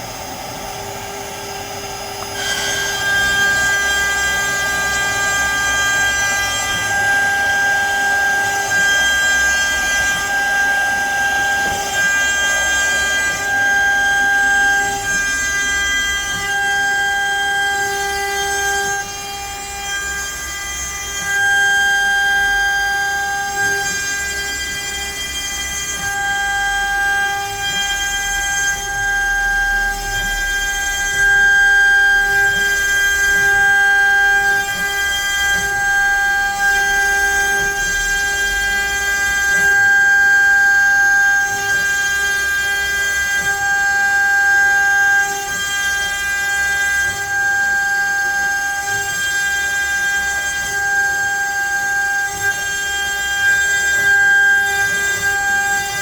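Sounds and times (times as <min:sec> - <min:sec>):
router bit cutting wood: 0:00.0 - 0:56.0
router spindle whining: 0:00.0 - 0:56.0.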